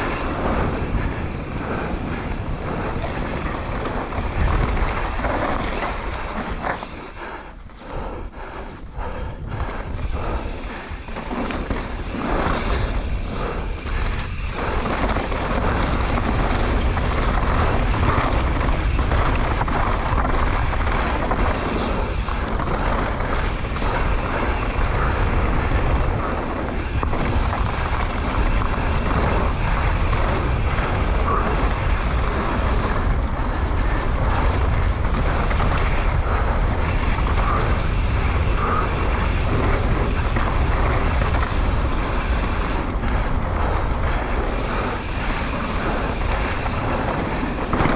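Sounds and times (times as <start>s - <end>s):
mountain bike on dirt trail: 0.0s - 47.9s
wind rumble on microphone: 0.0s - 47.9s.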